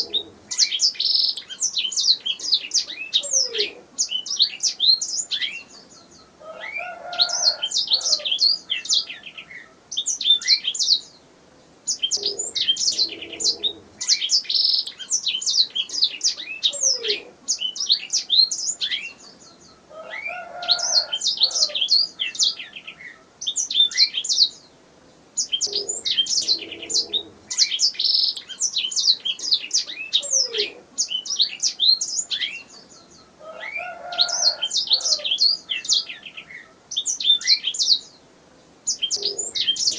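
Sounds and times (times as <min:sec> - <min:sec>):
canary singing: 0:00.0 - 0:11.2, 0:11.8 - 0:24.7, 0:25.3 - 0:38.2, 0:38.8 - 0:39.9.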